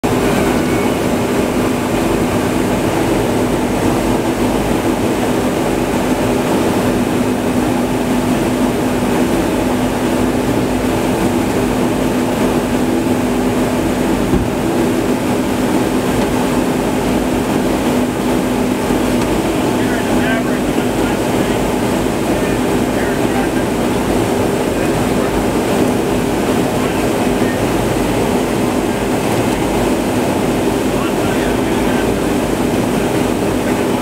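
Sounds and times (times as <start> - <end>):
aircraft engine and rushing air: 0.0 - 34.0
steady low hum: 0.0 - 34.0.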